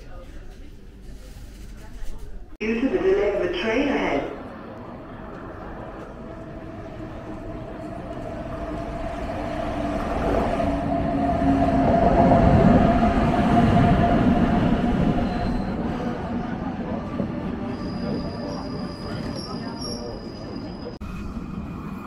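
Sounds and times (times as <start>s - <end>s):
train rumbling past: 2.7s - 22.0s.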